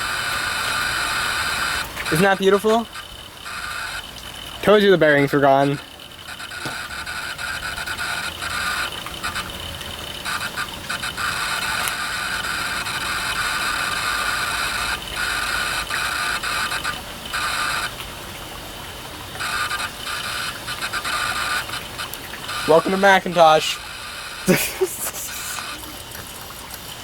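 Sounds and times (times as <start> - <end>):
hard drive spinning whine: 0.0 - 27.0.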